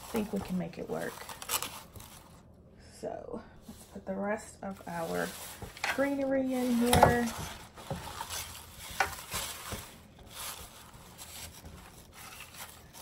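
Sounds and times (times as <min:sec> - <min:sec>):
greenery rustling and crackling: 0:00.0 - 0:02.5, 0:04.6 - 0:13.0.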